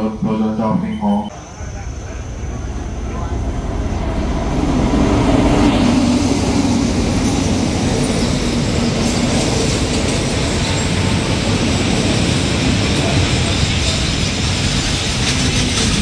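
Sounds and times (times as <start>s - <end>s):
diesel locomotive engine drone: 0.0s - 16.0s
train wheels rolling on rails: 1.3s - 16.0s.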